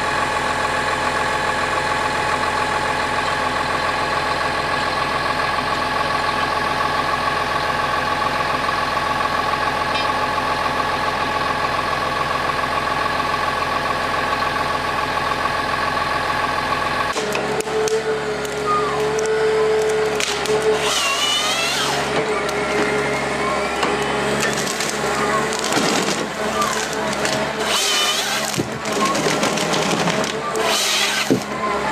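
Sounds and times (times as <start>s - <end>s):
diesel engine idling: 0.0s - 31.9s.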